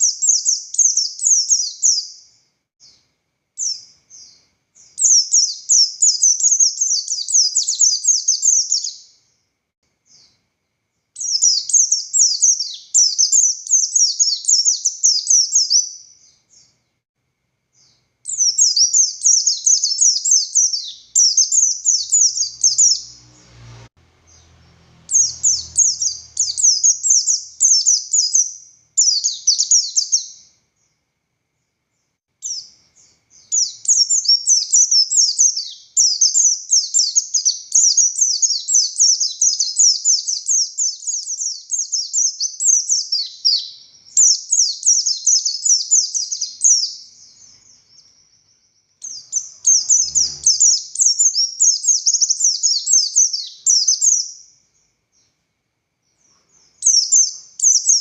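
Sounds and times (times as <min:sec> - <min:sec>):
bird chattering song: 0:00.0 - 0:03.0, 0:03.6 - 0:09.3, 0:11.2 - 0:16.8, 0:17.8 - 0:23.3, 0:24.2 - 0:30.5, 0:32.4 - 0:55.3, 0:56.2 - 0:58.0.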